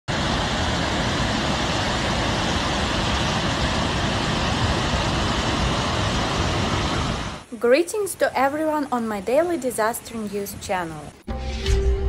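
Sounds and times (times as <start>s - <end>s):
floodwater rushing: 0.1s - 11.0s.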